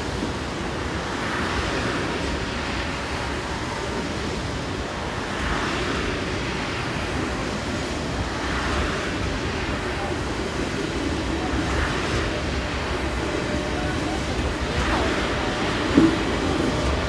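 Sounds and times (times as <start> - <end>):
surf breaking near shore: 0.0 - 17.0
wind on microphone: 0.0 - 17.0.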